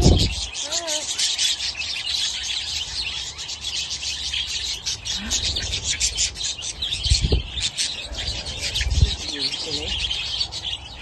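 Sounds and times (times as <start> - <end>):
budgerigars chattering: 0.0 - 11.0.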